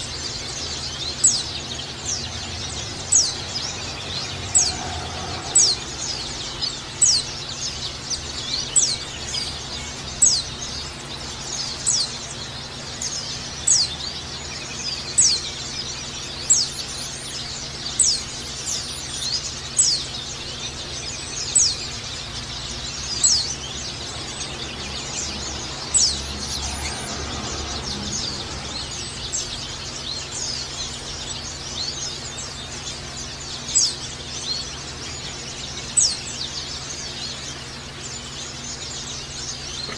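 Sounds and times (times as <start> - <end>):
high bird twittering: 0.0 - 39.9.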